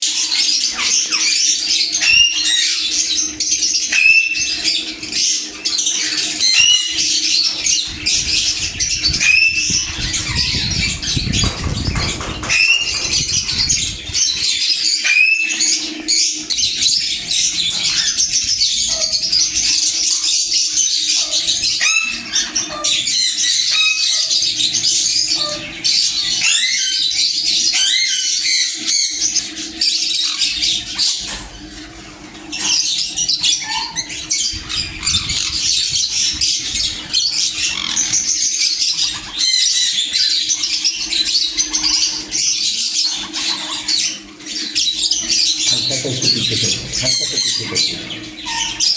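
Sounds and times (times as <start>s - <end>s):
parrots chattering and screeching: 0.0s - 48.9s.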